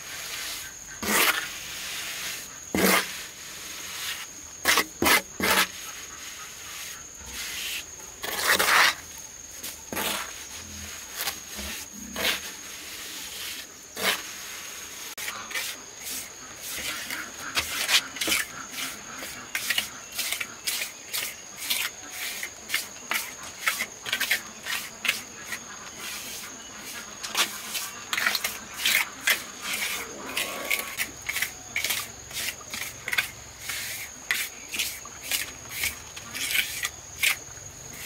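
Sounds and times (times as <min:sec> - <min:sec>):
high insect buzz: 0:00.0 - 0:38.0
scraping strokes: 0:00.0 - 0:38.0.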